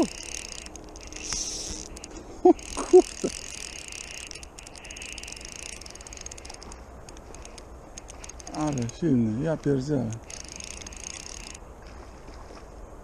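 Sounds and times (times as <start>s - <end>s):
fishing reel ratchet buzzing: 0.0s - 11.6s.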